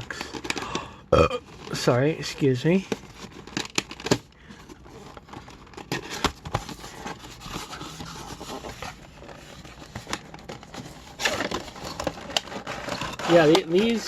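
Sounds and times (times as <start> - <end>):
packaging being handled: 0.0 - 14.0.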